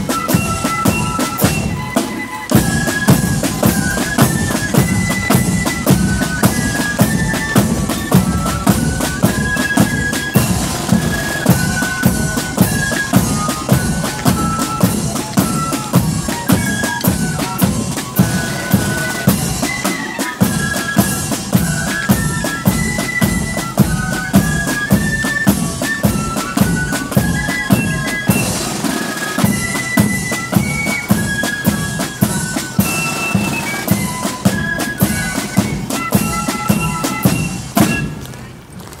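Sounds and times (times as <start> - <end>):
side drums and bass drum march: 0.0 - 38.4
flutes playing a tune: 0.0 - 38.5.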